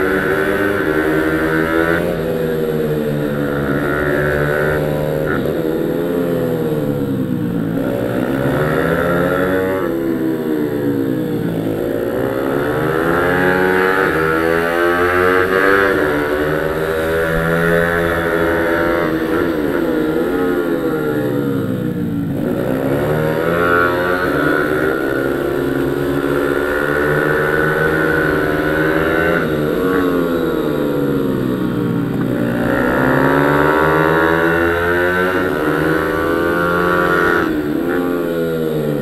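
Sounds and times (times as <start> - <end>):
pit bike engine revving: 0.0 - 39.0.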